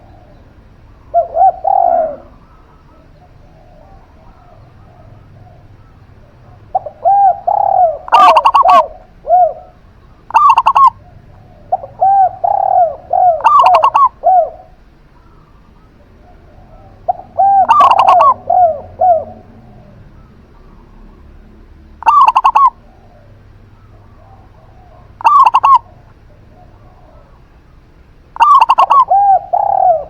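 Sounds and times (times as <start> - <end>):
doves cooing: 0.0 - 30.0.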